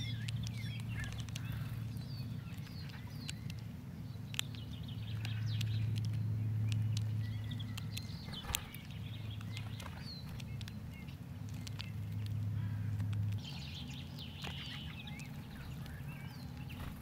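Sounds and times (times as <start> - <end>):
bird pecking on gravel: 0.0 - 17.0
small birds chirping: 0.0 - 17.0
steady low hum: 0.0 - 17.0.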